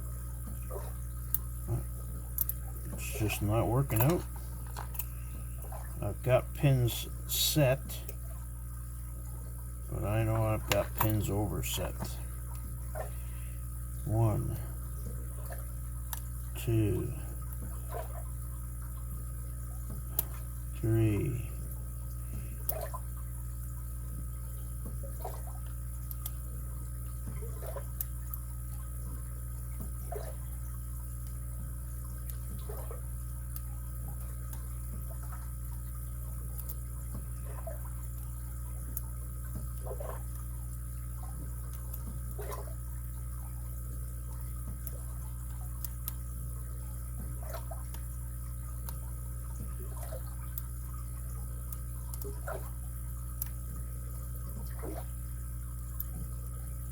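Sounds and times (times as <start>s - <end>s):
steady background hum: 0.0s - 56.9s.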